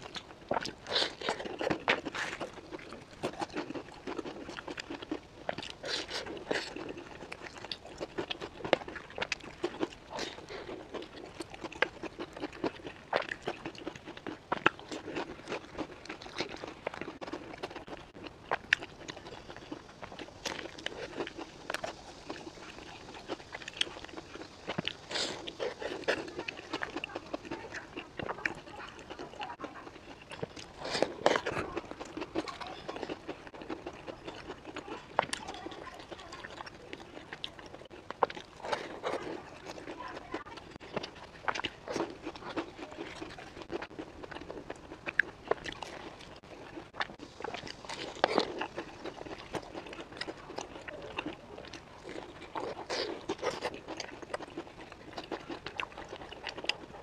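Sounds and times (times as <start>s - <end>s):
crunching and chewing pastry: 0.0s - 57.0s.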